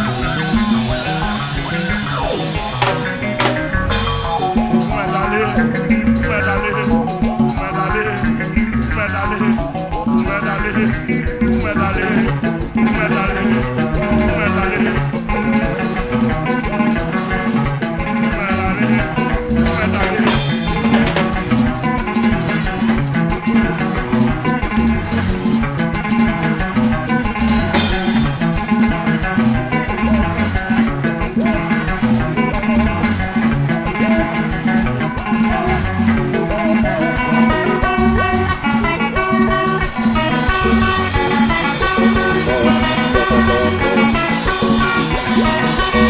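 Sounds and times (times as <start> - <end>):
worship music with guitar and drums: 0.0 - 46.0.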